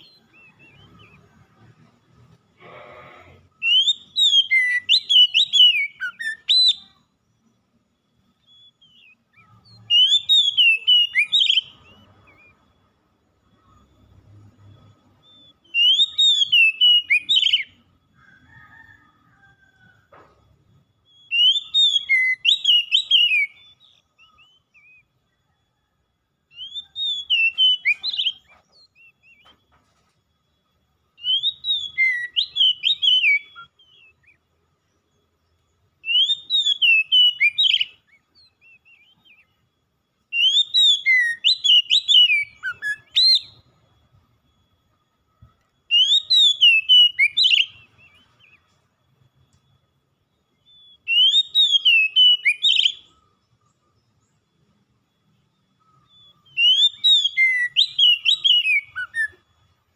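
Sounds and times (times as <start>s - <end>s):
bird singing whistled notes: 0.0s - 2.4s, 3.4s - 29.8s, 30.4s - 59.9s.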